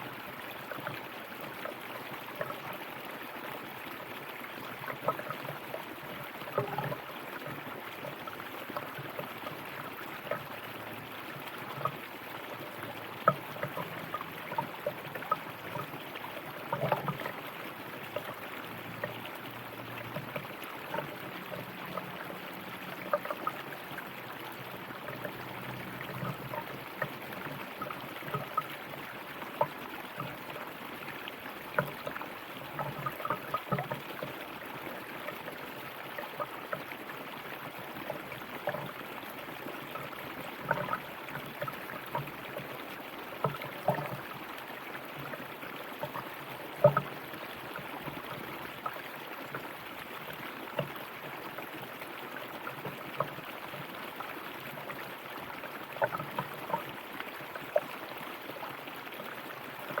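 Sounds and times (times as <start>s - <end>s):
stream flowing over stones: 0.0s - 60.0s.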